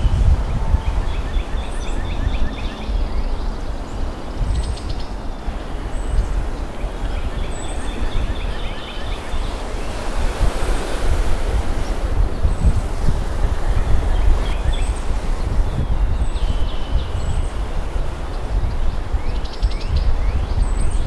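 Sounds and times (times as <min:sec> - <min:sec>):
birds chirping: 0:00.0 - 0:21.0
wind rumbling on microphone: 0:00.0 - 0:21.0.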